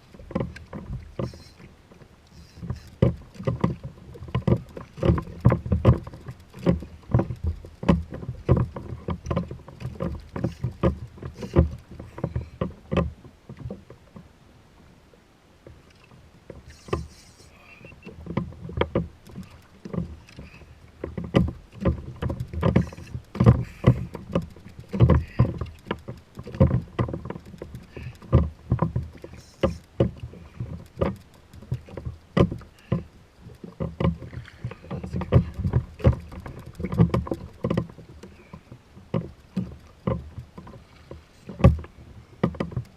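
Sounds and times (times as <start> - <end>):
water slapping: 0.0 - 13.9, 15.9 - 42.9.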